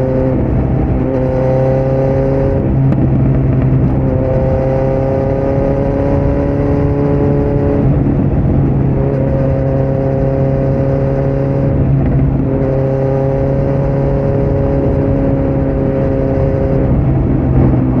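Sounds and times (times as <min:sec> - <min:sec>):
motorcycle engine running loud: 0:00.0 - 0:18.0.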